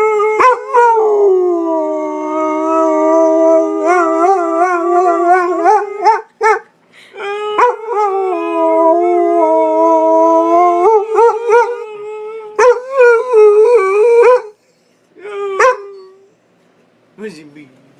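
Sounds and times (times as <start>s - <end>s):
dog howling: 0.0s - 6.6s, 7.2s - 14.6s, 15.2s - 16.3s.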